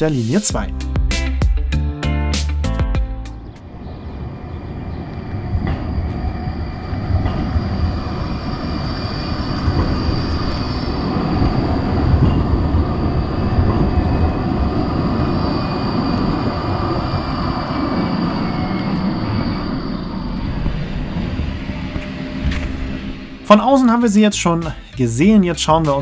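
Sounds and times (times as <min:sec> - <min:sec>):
tram rolling on rails: 0:03.4 - 0:26.0
high-pitched whine: 0:03.6 - 0:24.6.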